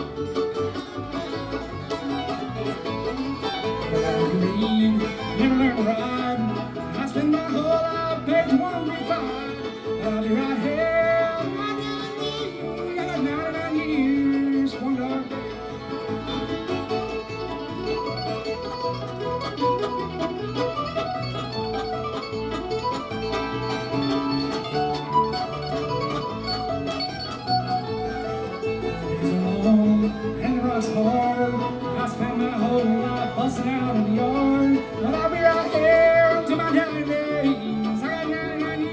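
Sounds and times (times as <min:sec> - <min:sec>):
bluegrass band playing: 0:00.0 - 0:38.9.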